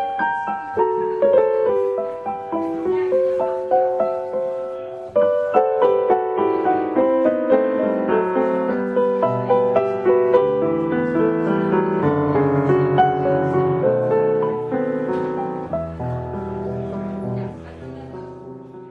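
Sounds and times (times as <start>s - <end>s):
piano music: 0.0s - 18.9s.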